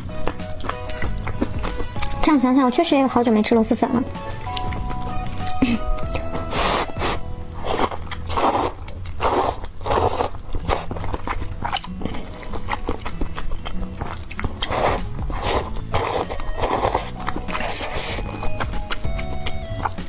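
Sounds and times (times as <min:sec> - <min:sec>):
person biting and chewing food: 0:00.0 - 0:02.2, 0:04.1 - 0:20.0.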